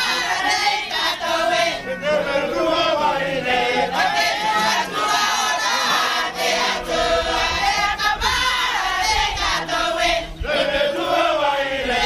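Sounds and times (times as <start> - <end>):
choir chanting without instruments: 0.0 - 12.0.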